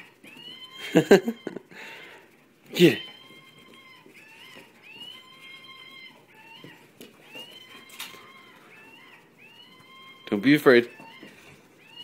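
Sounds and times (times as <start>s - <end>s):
electronic monkey toy cries: 0.0s - 1.9s, 2.7s - 12.0s.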